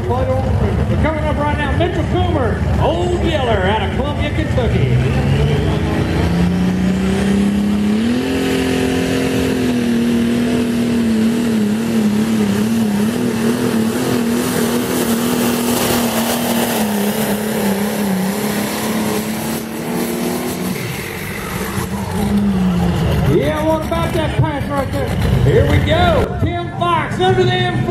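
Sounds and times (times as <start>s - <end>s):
tractor engine at full throttle: 0.0s - 27.9s.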